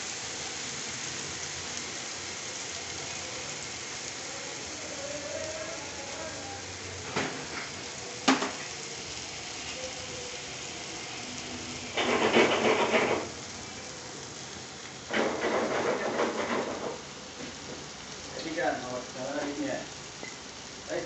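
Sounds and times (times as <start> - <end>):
meat sizzling in grill pan: 0.0 - 21.0.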